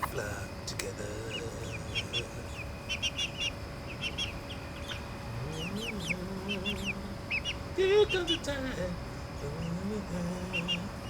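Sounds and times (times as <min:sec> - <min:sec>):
young chickens peeping: 0:00.0 - 0:00.2, 0:01.0 - 0:11.0
steady low hum: 0:00.0 - 0:11.0.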